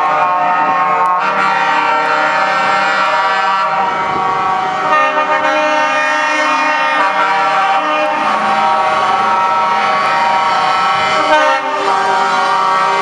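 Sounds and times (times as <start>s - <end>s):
truck air horns: 0.0s - 13.0s.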